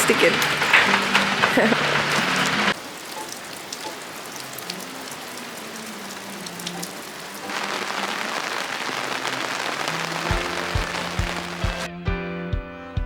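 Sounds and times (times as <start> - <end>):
rain falling steadily: 0.0 - 11.9.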